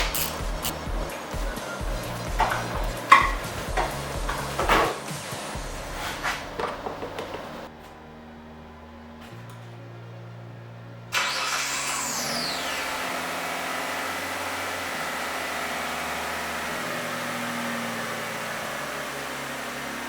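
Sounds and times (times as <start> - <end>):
car engine idling: 0.0 - 6.1, 10.0 - 20.0
car engine starting: 0.0 - 20.0.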